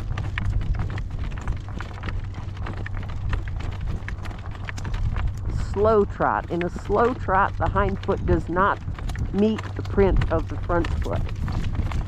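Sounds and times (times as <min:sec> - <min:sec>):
horse hooves clip-clopping: 0:00.0 - 0:12.0
low rumble: 0:00.0 - 0:12.0.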